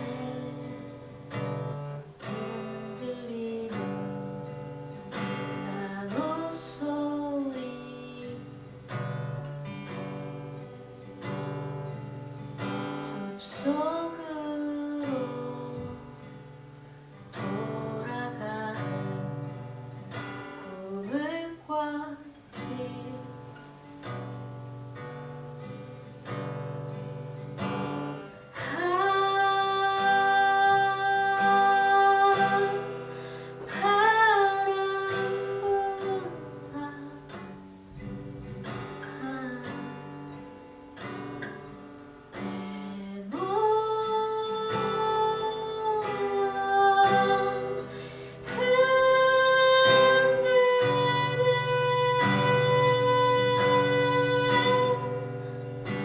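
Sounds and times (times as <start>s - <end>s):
acoustic guitar plucked and strummed: 0.0s - 56.0s.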